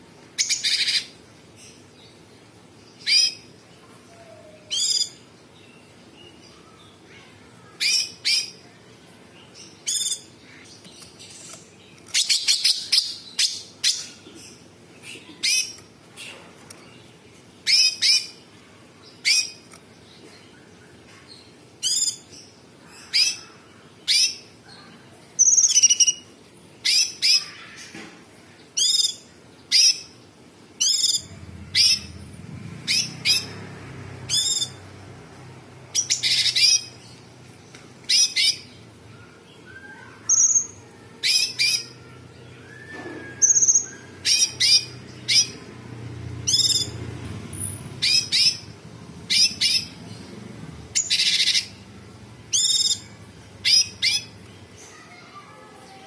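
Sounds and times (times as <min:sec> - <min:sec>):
bird singing sharp phrases: 0:00.4 - 0:28.0, 0:30.8 - 0:34.9, 0:36.0 - 0:45.7, 0:46.5 - 0:50.4, 0:51.0 - 0:51.9, 0:52.5 - 0:56.0.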